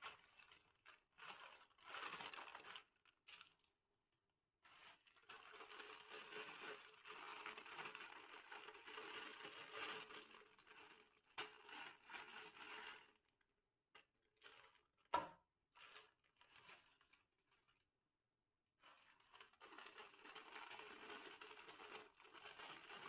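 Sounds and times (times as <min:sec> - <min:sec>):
plastic snack packet crinkling: 0:00.0 - 0:03.8, 0:04.6 - 0:15.1, 0:15.7 - 0:17.8, 0:18.8 - 0:23.0.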